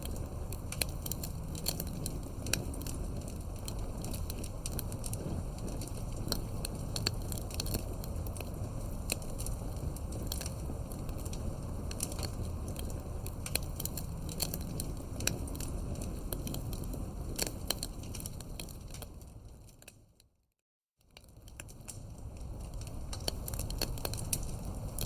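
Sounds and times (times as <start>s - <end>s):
firewood crackling and popping: 0.0s - 20.2s, 21.1s - 25.0s
rumble of flame: 0.0s - 20.3s, 21.1s - 25.0s.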